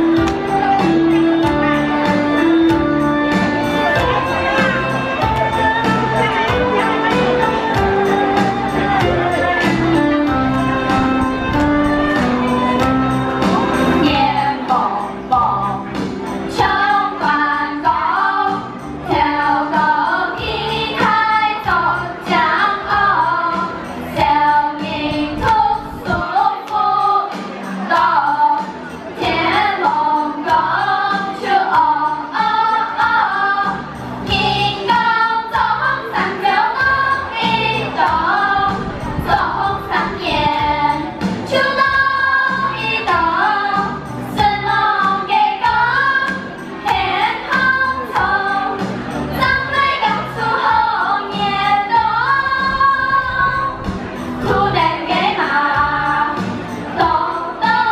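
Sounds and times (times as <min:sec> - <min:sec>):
group singing children's song: 0:00.0 - 0:57.9
musical accompaniment: 0:00.0 - 0:57.9.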